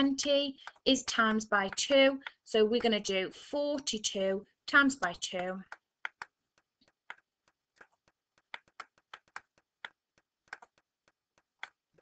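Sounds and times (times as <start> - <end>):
stylus tapping on a tablet screen: 0.0 - 2.9, 4.9 - 12.0.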